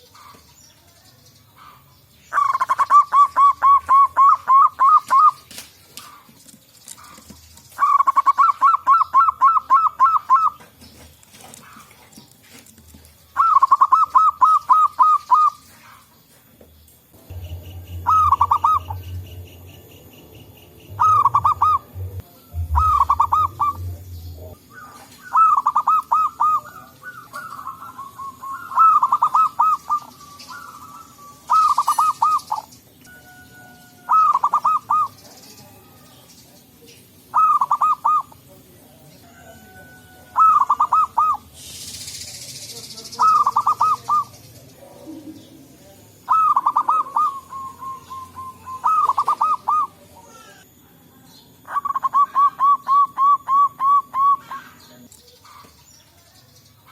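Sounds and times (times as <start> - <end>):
doves cooing: 1.5 - 16.6, 17.2 - 36.1, 37.2 - 38.5, 39.2 - 41.8, 43.1 - 50.8, 51.5 - 55.9.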